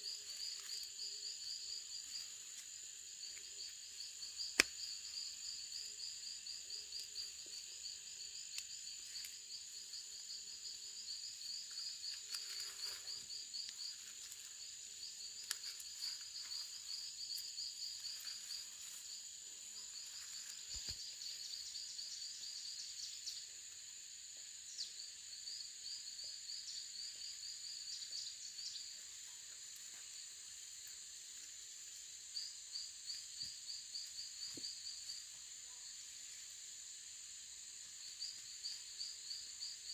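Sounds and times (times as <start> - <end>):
insect high-pitched drone: 0.0 - 39.9
insects rapid chirps: 0.0 - 39.9.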